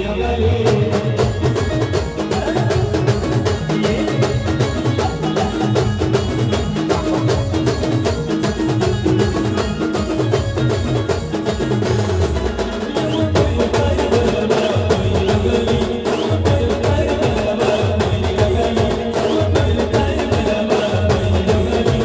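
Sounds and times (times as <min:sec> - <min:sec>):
band music: 0:00.0 - 0:22.0
repeating drum beat: 0:00.6 - 0:22.0.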